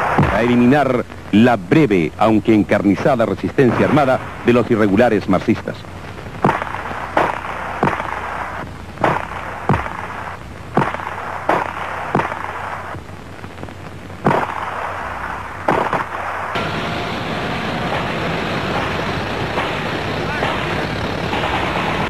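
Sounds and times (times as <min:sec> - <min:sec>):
gunshots: 0:00.0 - 0:01.0, 0:03.6 - 0:05.1, 0:06.1 - 0:13.0, 0:13.6 - 0:22.0
noisy background: 0:00.0 - 0:22.0.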